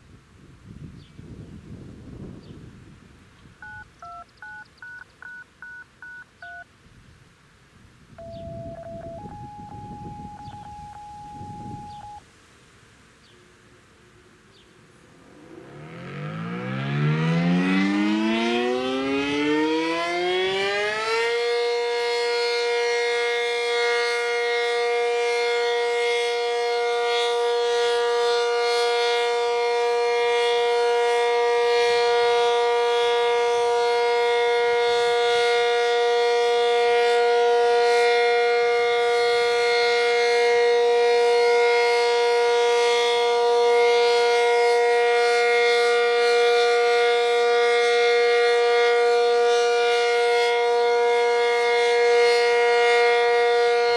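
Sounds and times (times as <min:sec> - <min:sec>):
warning siren steady tone: 0:03.6 - 0:06.6, 0:08.1 - 0:12.2, 0:15.2 - 0:53.9.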